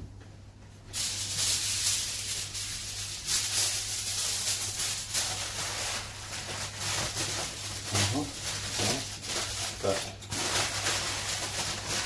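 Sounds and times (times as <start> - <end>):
aluminium foil crinkling: 0.9 - 12.0.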